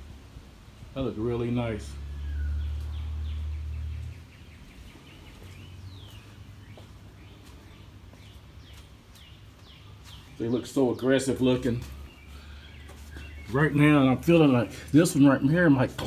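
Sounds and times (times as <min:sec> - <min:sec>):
small birds chirping: 0:01.0 - 0:16.0.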